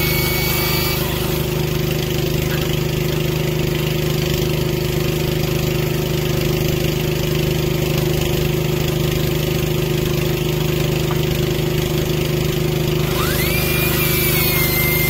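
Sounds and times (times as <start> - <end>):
small engine humming: 0.0 - 6.7, 9.1 - 15.0.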